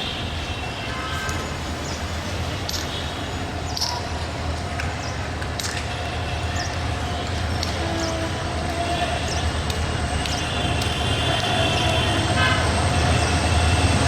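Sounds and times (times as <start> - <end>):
diesel train rumbling: 0.0 - 14.0
outdoor noise: 0.0 - 14.0.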